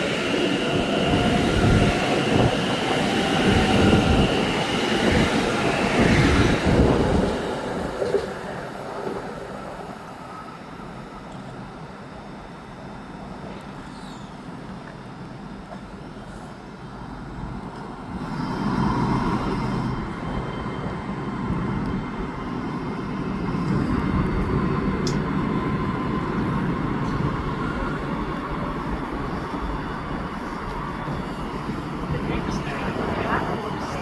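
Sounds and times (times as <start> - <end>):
train rumbling past: 0.0 - 34.0.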